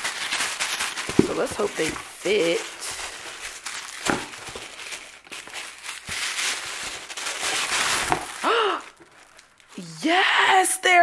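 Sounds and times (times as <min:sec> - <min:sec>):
plastic bags crinkling: 0:00.0 - 0:10.1.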